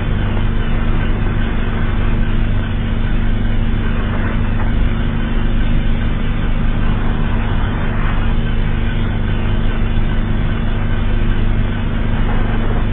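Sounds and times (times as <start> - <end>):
low droning alarm tone: 0.0 - 12.9.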